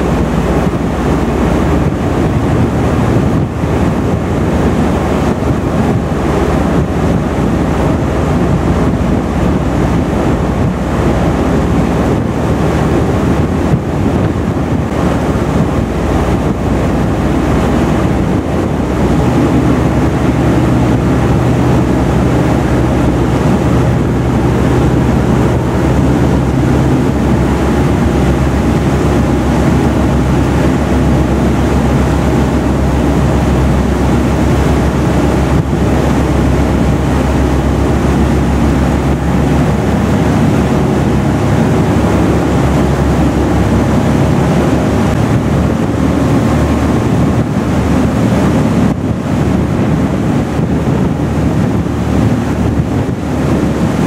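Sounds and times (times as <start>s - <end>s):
boat engines droning: 0.0s - 54.0s
water rushing along hull: 0.0s - 54.0s
wind buffeting microphone: 0.0s - 54.0s.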